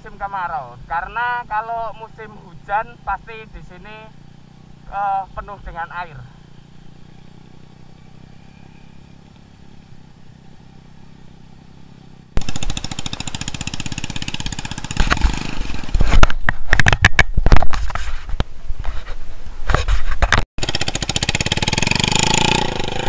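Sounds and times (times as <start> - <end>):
motorcycle engine running: 0.0 - 17.4, 20.3 - 23.0.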